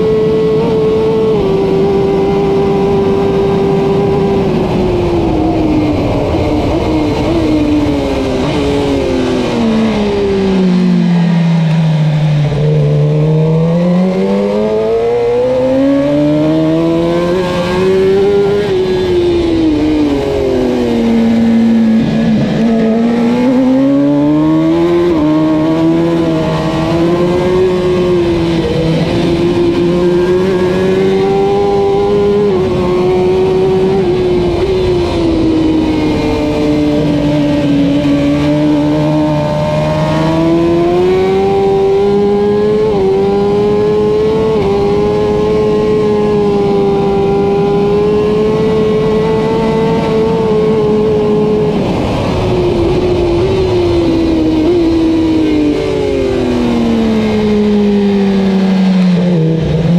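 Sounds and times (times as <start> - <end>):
motorcycle engine accelerating hard: 0.0 - 59.9
wind rush: 0.0 - 59.9.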